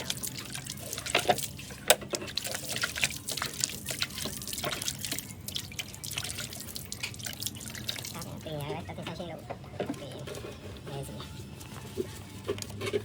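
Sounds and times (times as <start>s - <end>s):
liquid dripping and trickling: 0.0s - 11.0s.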